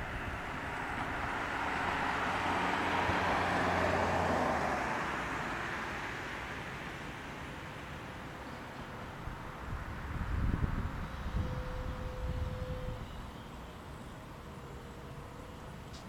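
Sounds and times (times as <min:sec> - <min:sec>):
vehicle engine and tyre noise: 0:00.0 - 0:16.0.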